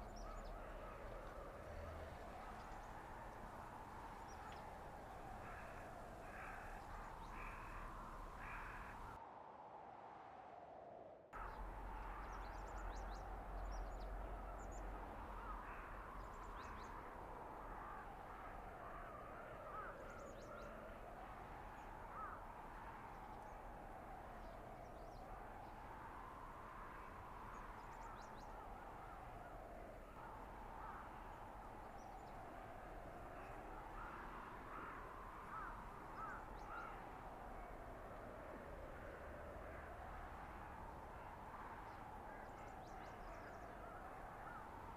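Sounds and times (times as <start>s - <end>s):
howling blizzard wind: 0.0s - 44.9s.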